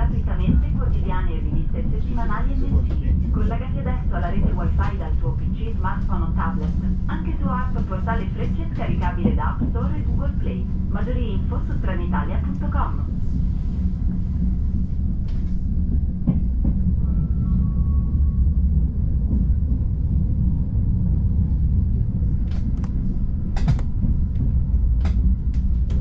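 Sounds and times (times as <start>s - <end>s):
train interior rumble: 0.0s - 26.0s.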